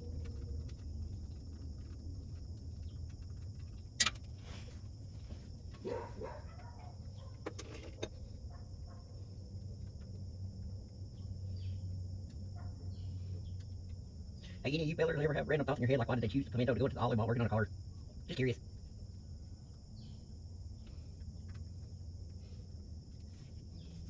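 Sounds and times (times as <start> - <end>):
insects chirring: 0.0 - 24.0
low hum: 0.0 - 24.0.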